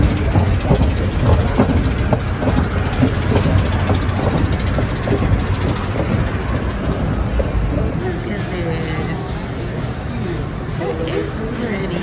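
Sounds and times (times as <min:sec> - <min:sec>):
escalator mechanical rumble: 0:00.0 - 0:11.5.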